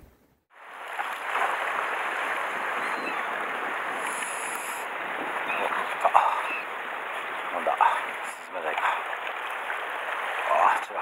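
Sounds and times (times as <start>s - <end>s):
waves washing over rocks: 0.6s - 11.0s.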